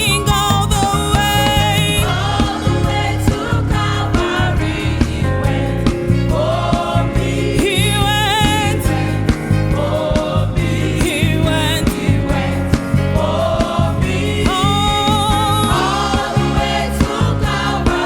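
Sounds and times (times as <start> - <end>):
band with steady beat and bass: 0.0 - 18.0
youth choir singing gospel: 0.0 - 18.0.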